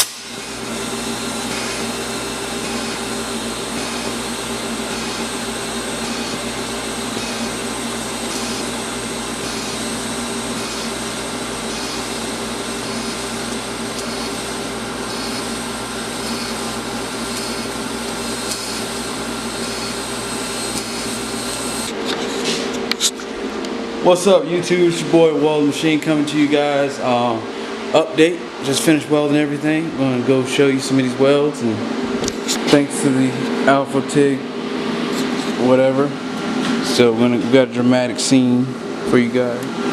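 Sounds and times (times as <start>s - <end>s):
mechanical whirring hum: 0.0s - 39.9s.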